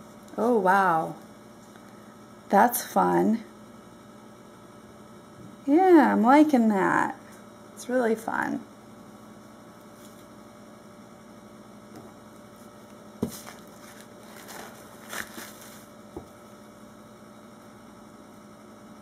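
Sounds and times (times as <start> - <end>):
mains hum: 0.0 - 19.0.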